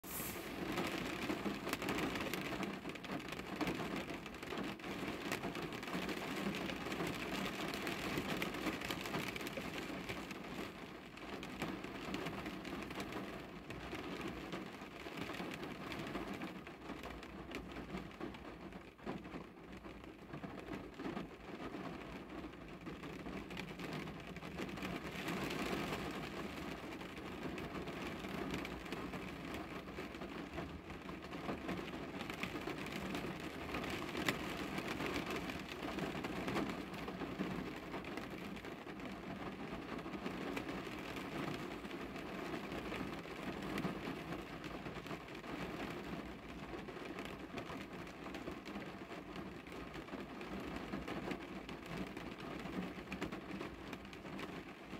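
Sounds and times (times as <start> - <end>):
rain on car roof and windows: 0.0 - 54.9.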